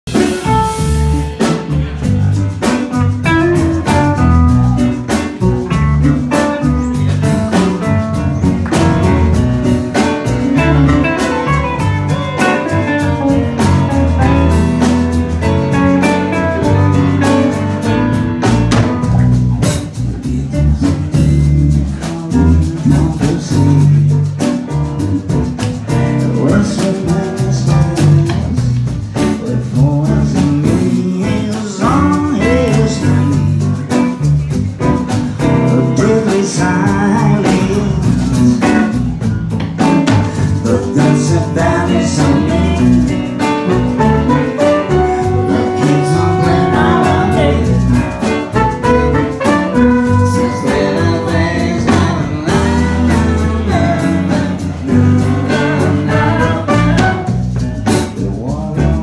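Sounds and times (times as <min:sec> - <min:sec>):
drum kit beat: 0:00.0 - 0:59.0
electric guitar: 0:00.0 - 0:59.0.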